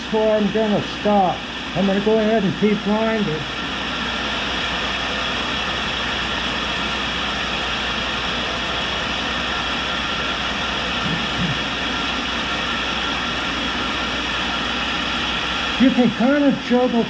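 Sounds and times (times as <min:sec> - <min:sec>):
grinding wheel hissing: 0:00.0 - 0:17.0.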